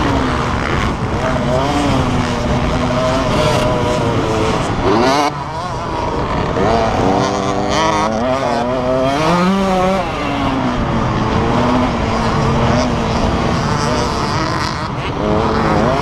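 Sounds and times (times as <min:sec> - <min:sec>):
motocross motorcycle engines revving: 0:00.0 - 0:16.0.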